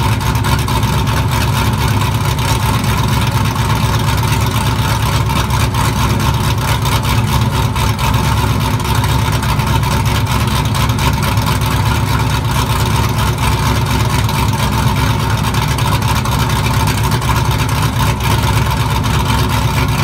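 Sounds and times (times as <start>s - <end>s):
engine idling through exhaust: 0.0s - 20.0s.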